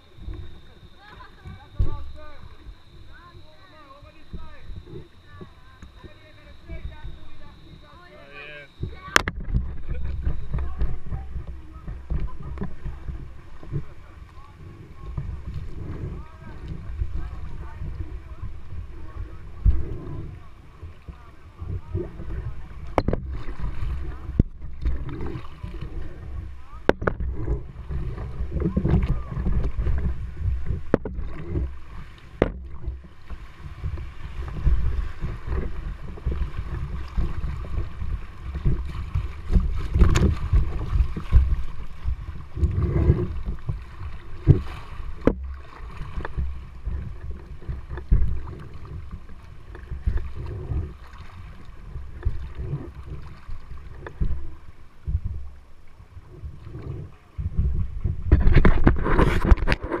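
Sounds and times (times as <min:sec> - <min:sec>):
river water splashing against kayak: 0:00.0 - 1:00.0
wind rumbling on microphone: 0:00.0 - 1:00.0.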